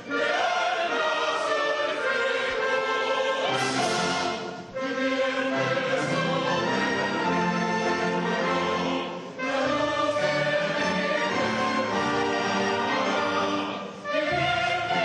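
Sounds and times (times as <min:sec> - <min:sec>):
choir singing: 0:00.0 - 0:15.0
symphony orchestra: 0:00.0 - 0:15.0.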